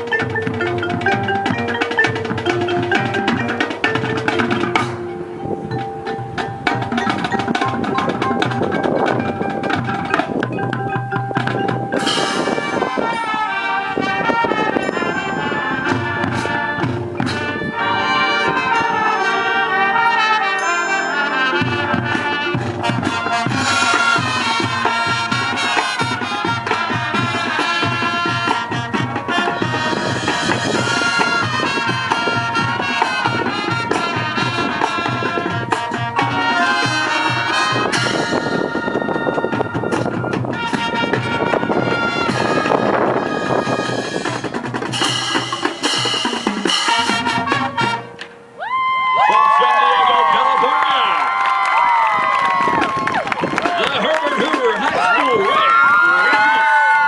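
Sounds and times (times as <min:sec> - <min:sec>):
band music with brass and drums: 0:00.0 - 0:57.0.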